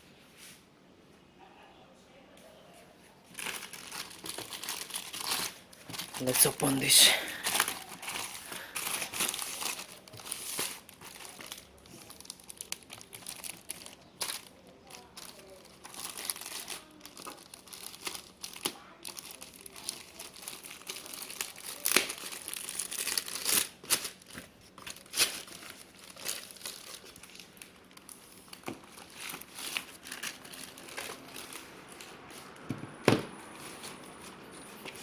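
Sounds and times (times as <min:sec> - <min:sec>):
packaging crinkling and crackling: 0:03.3 - 0:32.7.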